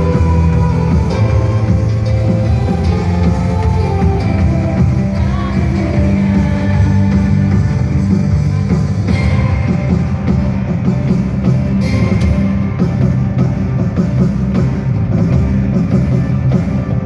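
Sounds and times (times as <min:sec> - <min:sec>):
drum kit: 0:00.0 - 0:17.0
electric guitar: 0:00.0 - 0:17.0
rock band music: 0:00.0 - 0:17.0.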